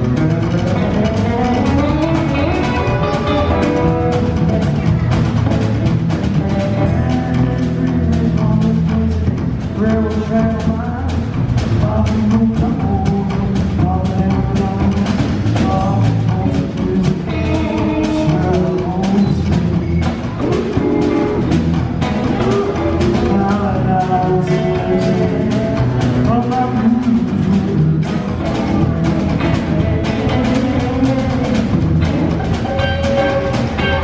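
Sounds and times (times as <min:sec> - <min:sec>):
drum kit beat: 0:00.0 - 0:34.0
guitar: 0:00.0 - 0:34.0
live band playing: 0:00.0 - 0:34.0.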